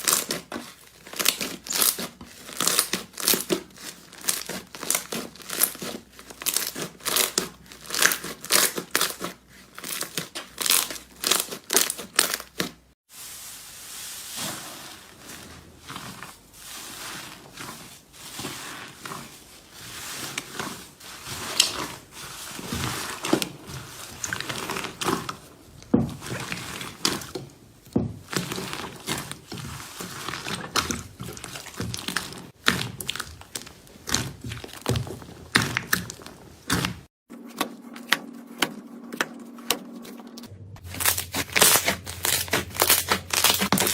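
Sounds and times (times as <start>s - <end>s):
slime squishing: 0.0s - 37.1s, 40.0s - 43.9s.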